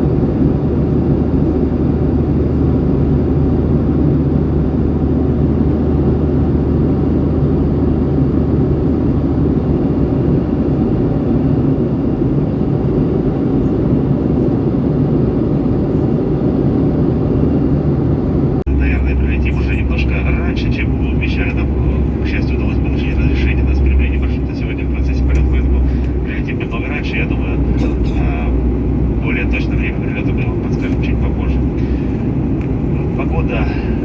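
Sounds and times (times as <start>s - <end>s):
airliner cabin engine hum: 0.0s - 34.0s.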